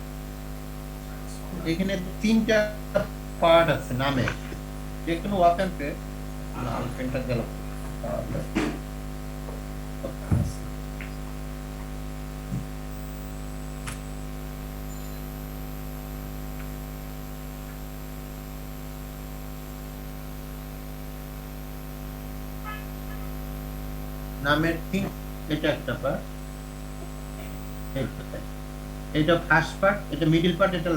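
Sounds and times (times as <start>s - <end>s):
electrical mains hum: 0.0s - 30.9s.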